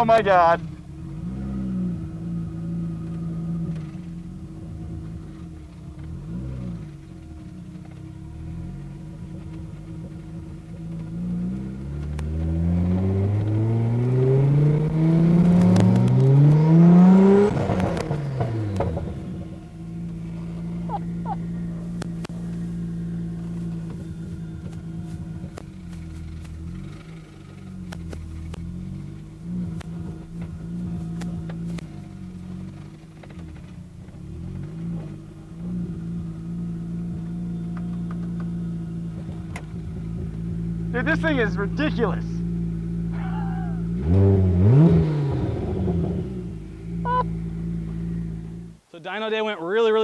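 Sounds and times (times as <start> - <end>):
car engine accelerating hard: 0.0 - 48.9.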